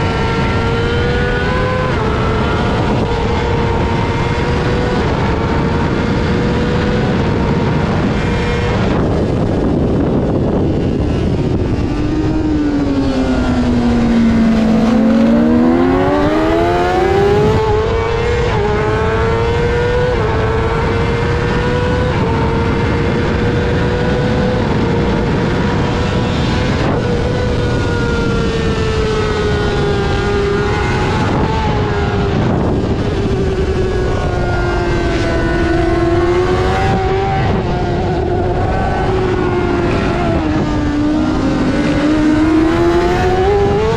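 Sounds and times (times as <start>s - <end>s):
motorcycle engine racing: 0.0s - 43.9s.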